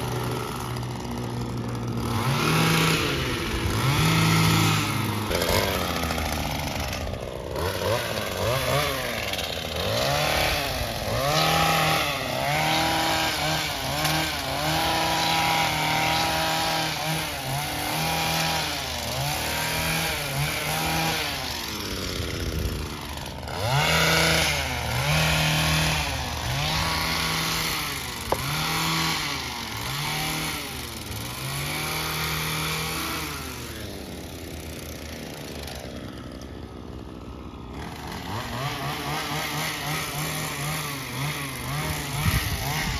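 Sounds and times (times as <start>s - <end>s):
small gas engine revving: 0.0s - 42.9s.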